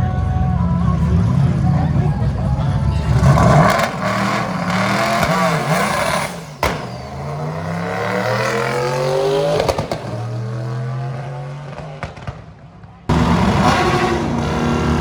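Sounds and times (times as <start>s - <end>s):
car engine accelerating hard: 0.0s - 12.3s, 13.1s - 15.0s.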